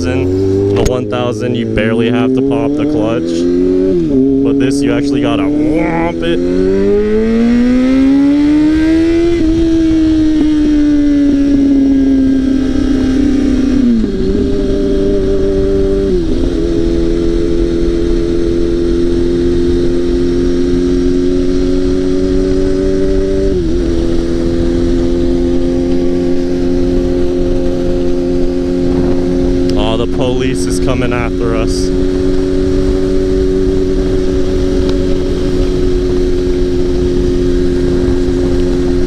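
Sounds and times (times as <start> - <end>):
motorcycle engine upshifting: 0.0 - 39.0.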